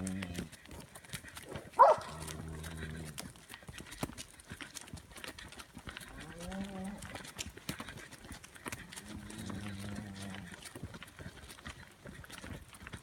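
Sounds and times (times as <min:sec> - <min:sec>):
cattle lowing: 0:00.0 - 0:12.6
hoofbeats at a walk: 0:00.0 - 0:13.0.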